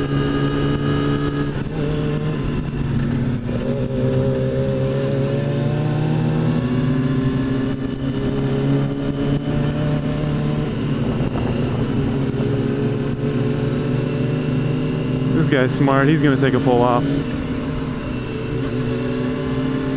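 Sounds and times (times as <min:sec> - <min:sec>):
motorcycle engine running: 0:00.0 - 0:19.9
wind noise: 0:00.0 - 0:19.9.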